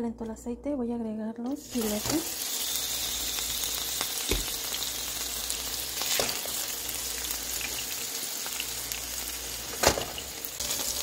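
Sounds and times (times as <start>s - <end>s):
fish frying in oil: 1.6s - 11.0s.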